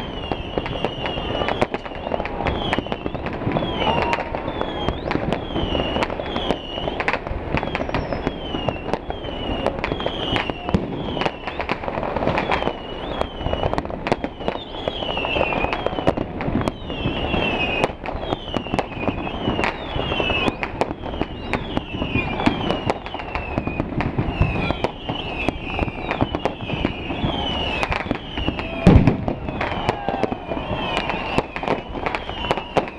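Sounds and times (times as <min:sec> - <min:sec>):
falling whistles: 0:00.0 - 0:32.9
fireworks banging: 0:00.0 - 0:32.9
fireworks crackle and hiss: 0:00.0 - 0:32.9.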